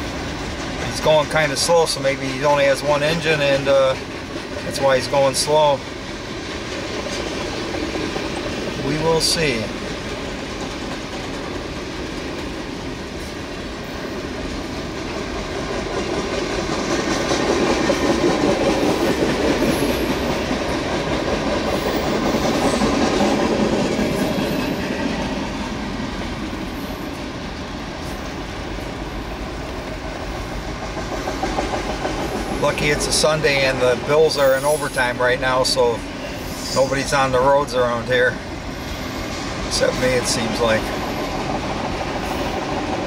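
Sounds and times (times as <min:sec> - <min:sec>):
train wheels rumbling and rattling: 0:00.0 - 0:43.0.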